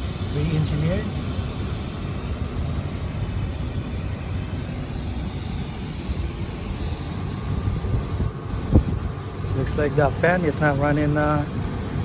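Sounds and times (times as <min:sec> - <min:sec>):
air conditioner fans droning: 0:00.0 - 0:12.0.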